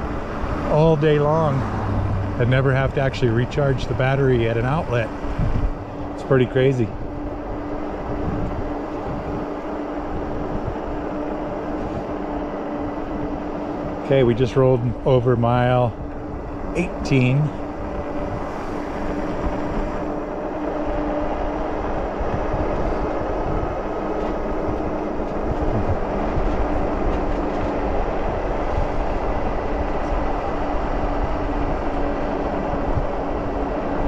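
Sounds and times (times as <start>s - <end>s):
wind rush on microphone: 0.0s - 34.0s
electric motor whine: 3.4s - 34.0s.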